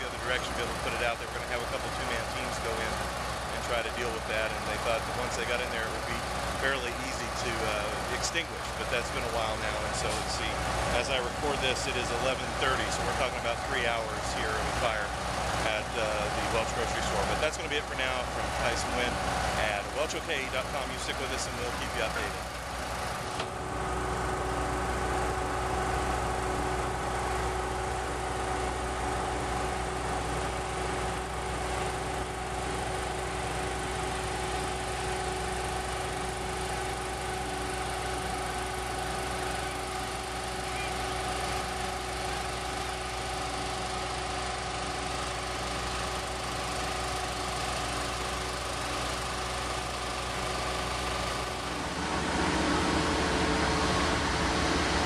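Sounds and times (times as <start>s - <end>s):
fire truck engines idling: 0.0s - 55.0s.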